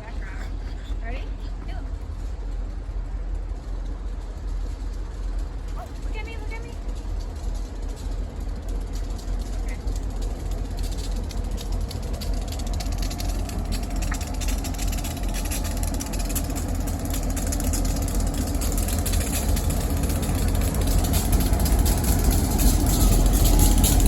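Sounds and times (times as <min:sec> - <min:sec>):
diesel freight train rumbling: 0:00.0 - 0:24.0.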